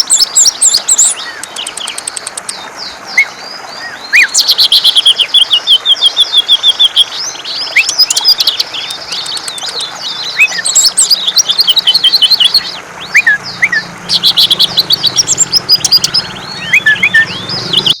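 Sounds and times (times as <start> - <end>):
bird singing chirps and trills: 0.0 - 18.0.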